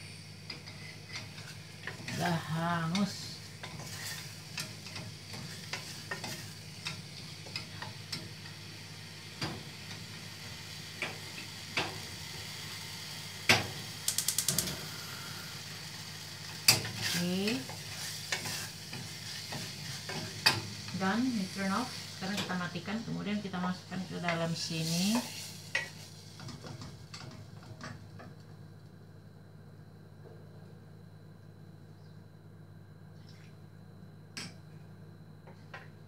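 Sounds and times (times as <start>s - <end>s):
soft sizzle: 0.0s - 29.3s.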